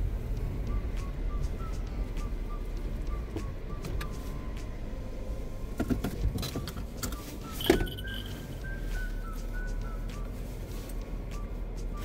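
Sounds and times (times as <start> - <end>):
car engine rumble inside cabin: 0.0 - 12.0
faint background music: 0.0 - 12.0.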